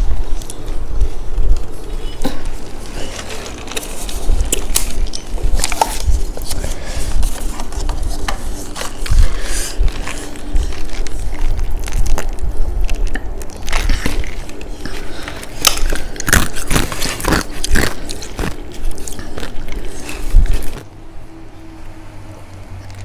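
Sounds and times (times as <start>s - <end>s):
chewing crispy fried chicken: 2.4s - 20.8s.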